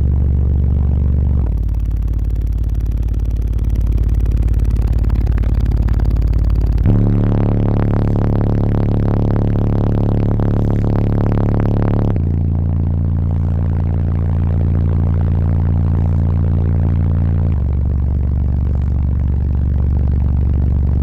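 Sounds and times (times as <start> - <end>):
subwoofer deep bass tone: 0.0 - 21.0.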